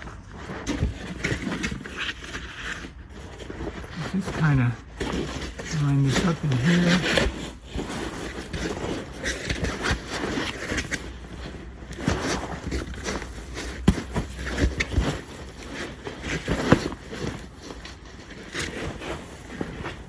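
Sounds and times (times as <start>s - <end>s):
fabric rustling and scraping: 0.0s - 20.0s.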